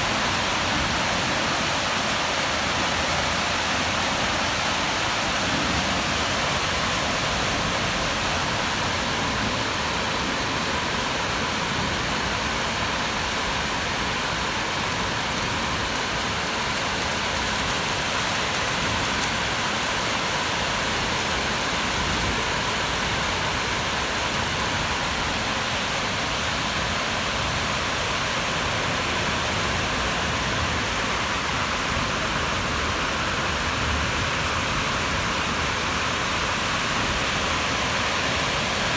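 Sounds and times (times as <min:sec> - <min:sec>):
steady rainfall hissing: 0:00.0 - 0:38.9.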